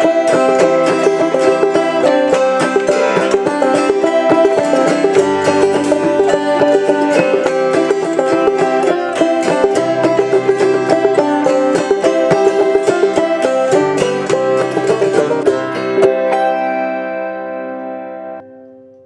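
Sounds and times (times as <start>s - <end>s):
plucked banjo notes: 0.0s - 18.8s
autoharp chords: 0.0s - 19.0s.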